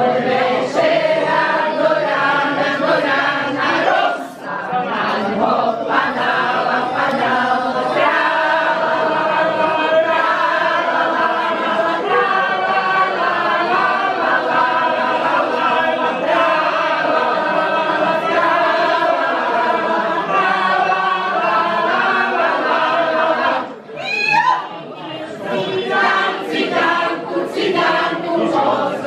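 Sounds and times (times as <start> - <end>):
group singing unaccompanied: 0.0 - 29.0.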